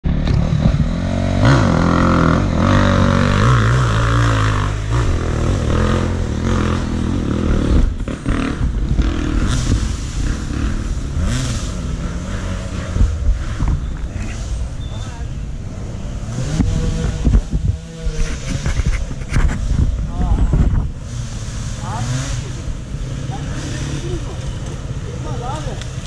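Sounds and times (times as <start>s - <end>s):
knocks and rattles of bike: 0.0s - 15.1s, 15.7s - 26.0s
dirt bike engine revving: 0.0s - 26.0s.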